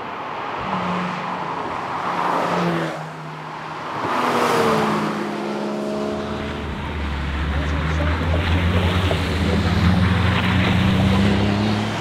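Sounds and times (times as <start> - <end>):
sports cars driving past: 0.2 - 12.0.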